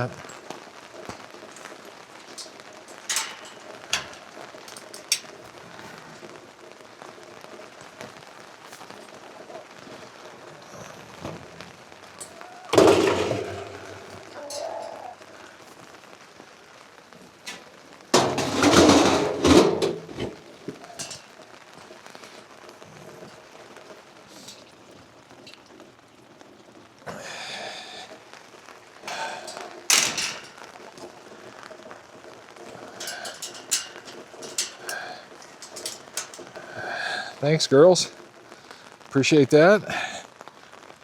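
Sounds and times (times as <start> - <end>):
rain pattering: 0.0 - 41.0.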